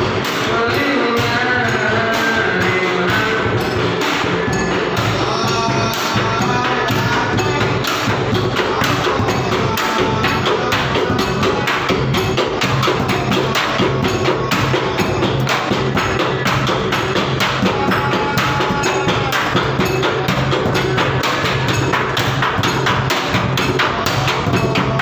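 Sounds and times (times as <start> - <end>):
large drum beaten fast: 0.0 - 25.0.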